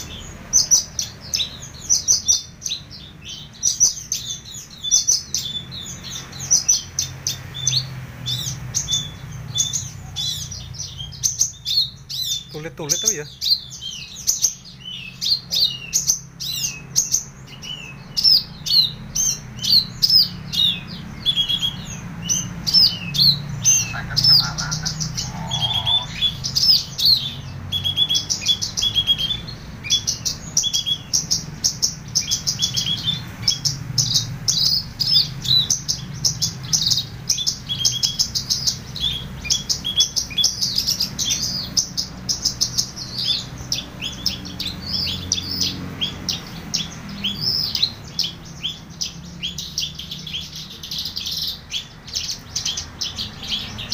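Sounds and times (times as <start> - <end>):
bird singing chirps and trills: 0.0 - 53.9.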